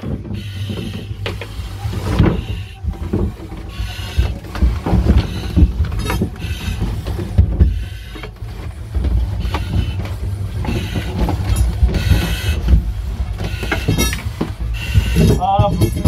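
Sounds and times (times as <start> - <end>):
gear knocking and scraping on boards: 0.0 - 16.0.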